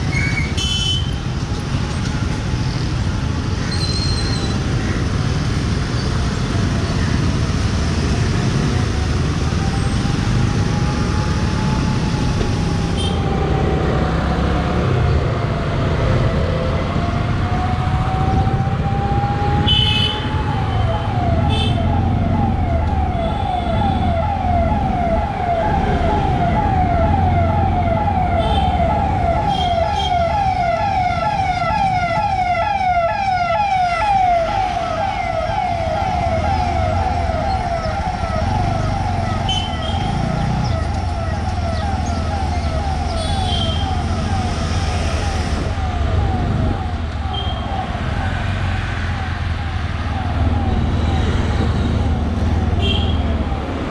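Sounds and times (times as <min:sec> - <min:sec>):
emergency vehicle siren: 0:00.0 - 0:53.9
engine and traffic rumble: 0:00.0 - 0:53.9.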